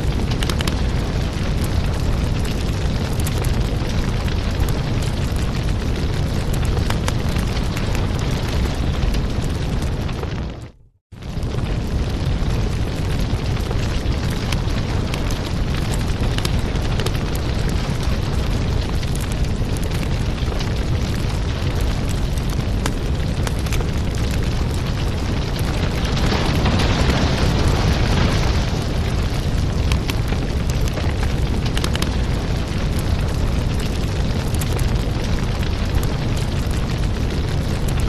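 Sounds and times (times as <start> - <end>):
fireplace fire crackling: 0.0 - 38.0.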